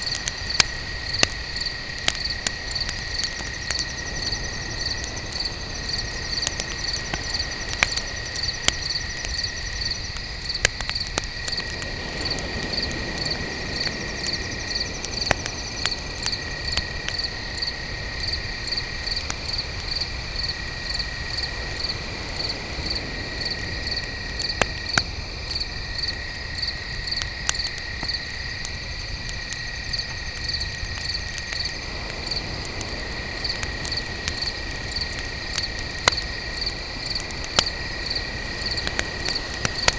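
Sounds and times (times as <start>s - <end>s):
campfire crackling and popping: 0.0s - 39.9s
continuous cricket trill: 0.0s - 39.9s
crickets chirping: 0.0s - 39.9s.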